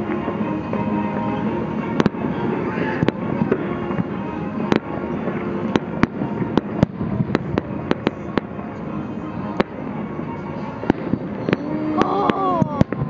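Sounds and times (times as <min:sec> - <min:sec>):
firework cracks and bangs: 0:00.0 - 0:08.6, 0:10.6 - 0:13.0
rumble of explosions: 0:00.0 - 0:13.0.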